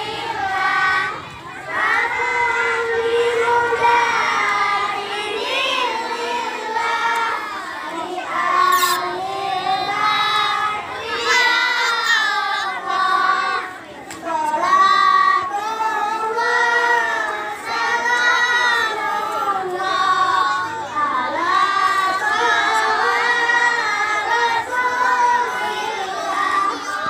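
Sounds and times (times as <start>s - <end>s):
boys singing together: 0.0s - 27.0s.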